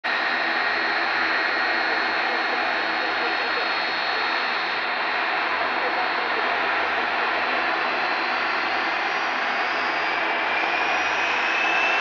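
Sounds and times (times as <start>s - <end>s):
jet engines running: 0.1s - 12.0s.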